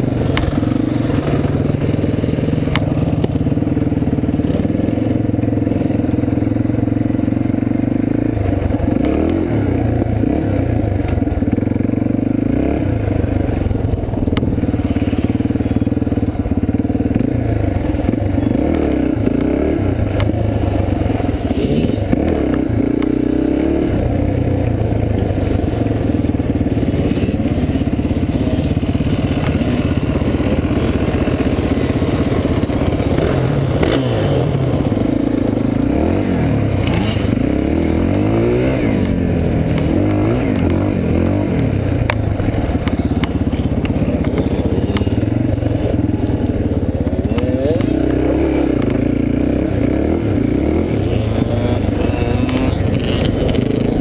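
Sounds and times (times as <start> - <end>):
dirt bike engine running: 0.0 - 54.0
engine revving: 0.0 - 54.0.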